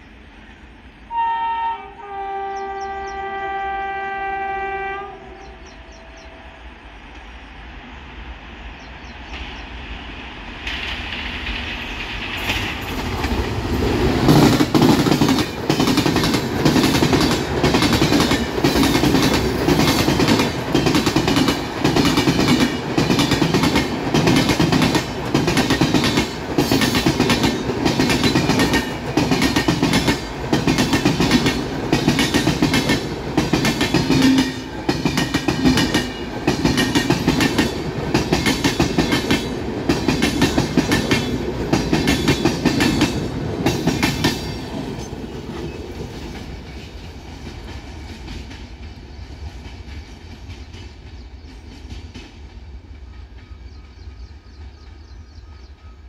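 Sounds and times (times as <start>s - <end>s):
train passing at speed: 0.0s - 56.0s.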